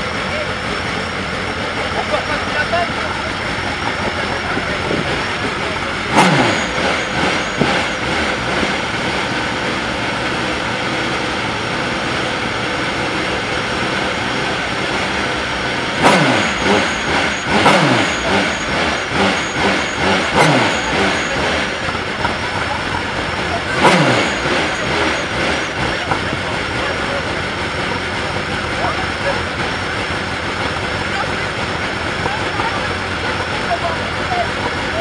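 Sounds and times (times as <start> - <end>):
car engine idling: 0.0 - 35.0
engine throttle blips: 0.0 - 35.0.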